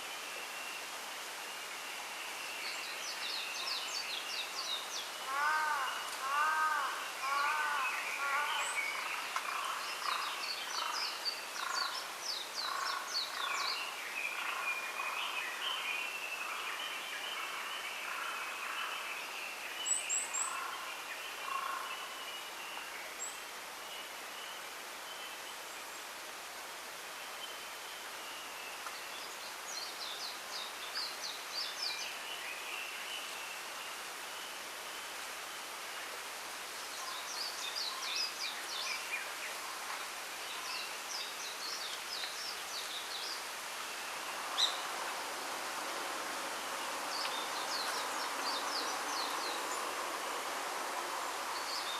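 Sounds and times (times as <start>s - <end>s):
small birds singing and calling: 0.0s - 26.2s, 27.2s - 45.0s, 46.4s - 50.4s, 51.4s - 51.9s
steady background hiss: 0.0s - 51.9s.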